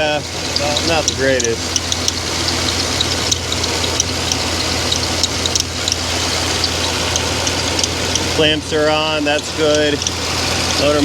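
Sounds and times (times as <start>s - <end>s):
car engine running: 0.0s - 11.0s
drive belt chirping: 0.0s - 11.0s.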